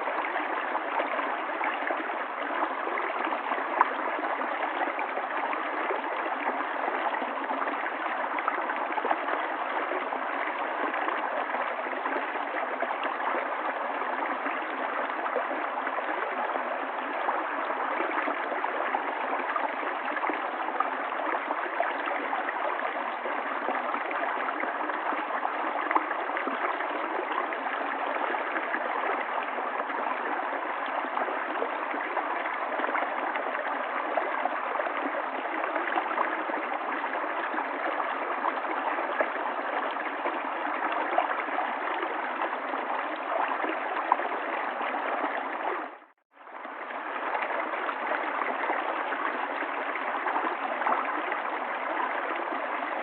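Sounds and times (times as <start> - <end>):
river water flowing and gurgling: 0.0 - 53.0.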